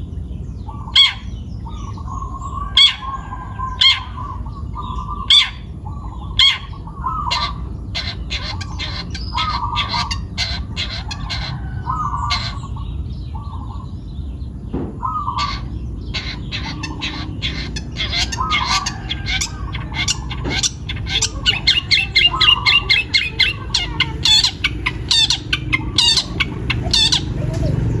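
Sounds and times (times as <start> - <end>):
bird singing harsh calls: 0.6 - 13.9, 15.0 - 28.0.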